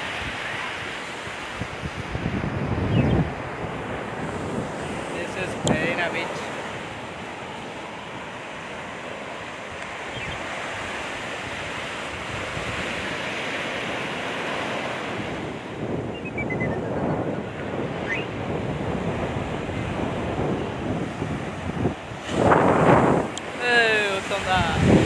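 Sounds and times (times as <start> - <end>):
surf breaking on sandy beach: 0.0 - 25.0
wind buffeting microphone: 0.0 - 25.0.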